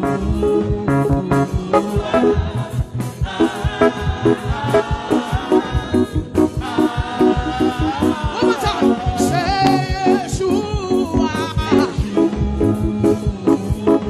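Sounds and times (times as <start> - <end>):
church band playing upbeat: 0.0 - 14.0.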